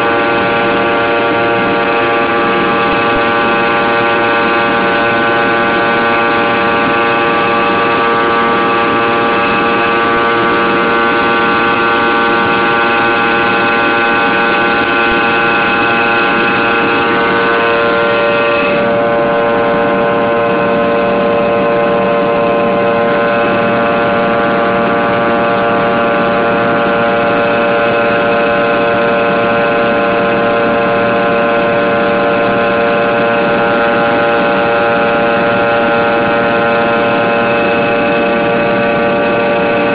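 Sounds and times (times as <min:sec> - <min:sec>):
engine whining tones: 0:00.0 - 0:39.9
jet engine drone in cabin: 0:00.0 - 0:39.9.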